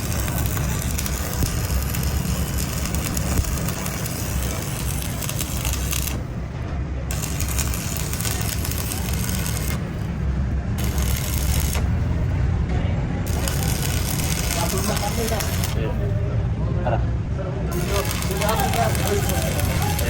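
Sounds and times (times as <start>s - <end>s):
machine low rumble: 0.0s - 16.6s.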